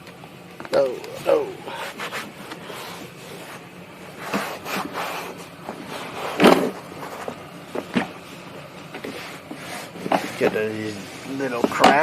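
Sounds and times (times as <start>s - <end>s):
towel rubbing on plastic panel: 1.7s - 8.4s, 9.0s - 12.0s.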